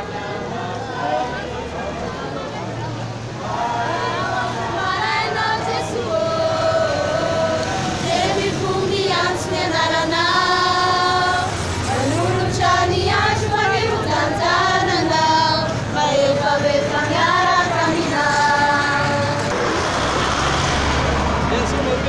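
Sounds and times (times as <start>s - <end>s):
girls and women singing together: 0.0s - 19.7s.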